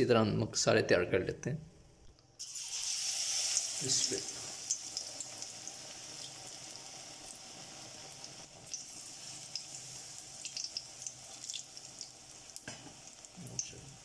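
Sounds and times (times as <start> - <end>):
bread deep-frying in oil: 2.4 - 14.0.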